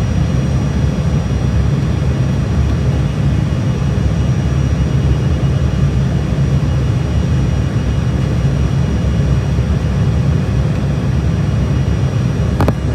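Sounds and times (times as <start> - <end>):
aeroplane engines and airflow rumble: 0.0 - 12.9.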